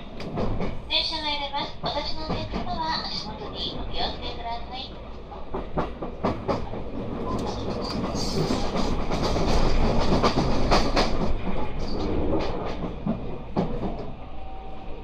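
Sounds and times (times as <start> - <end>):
train wheels rumbling and clicking: 0.0 - 15.0.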